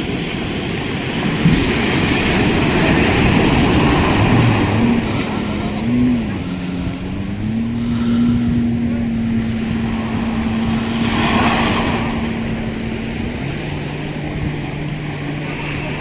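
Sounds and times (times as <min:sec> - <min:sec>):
jet ski engine running: 0:00.0 - 0:16.0.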